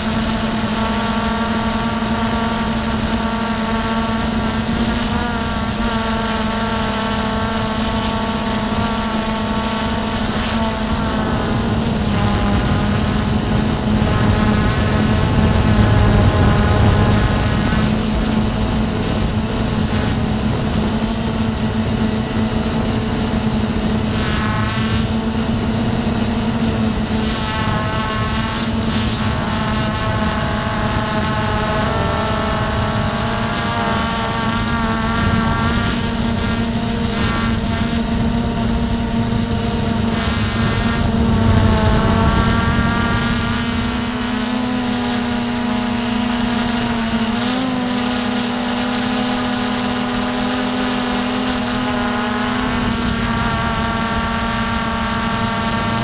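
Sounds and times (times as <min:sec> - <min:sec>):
drone propellers humming: 0:00.0 - 0:56.0.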